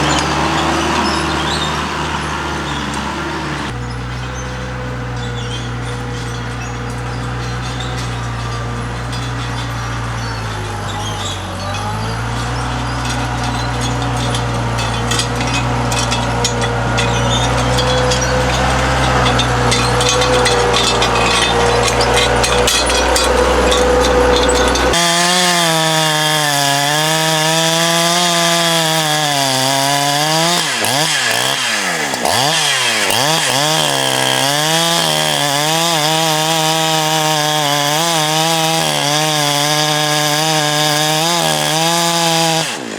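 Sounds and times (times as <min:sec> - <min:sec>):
chainsaw cutting wood: 0:00.0 - 0:42.9
heavy engine running: 0:00.0 - 0:42.9
knocks and clatter: 0:00.0 - 0:42.9.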